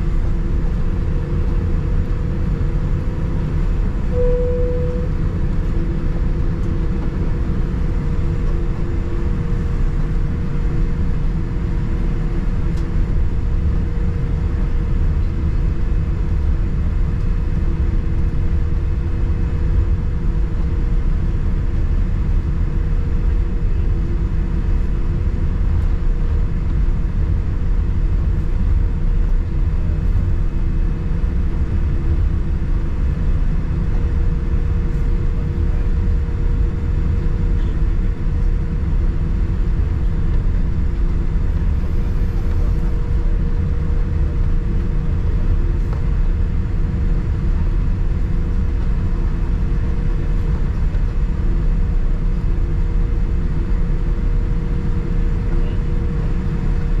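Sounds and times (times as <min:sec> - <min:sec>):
airplane cabin rumble: 0:00.0 - 0:57.0
jet engine hum: 0:00.0 - 0:57.0.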